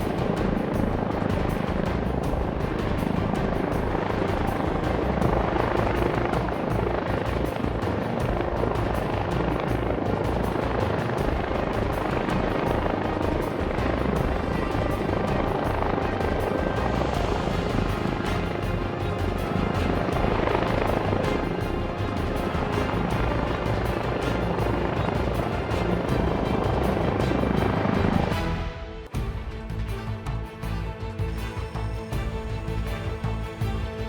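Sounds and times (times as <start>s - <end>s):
helicopter rotors whirring: 0.0s - 34.0s.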